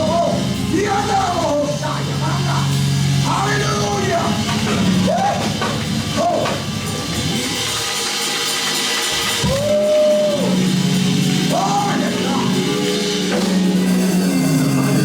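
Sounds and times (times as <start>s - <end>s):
church band with drums: 0.0s - 15.0s.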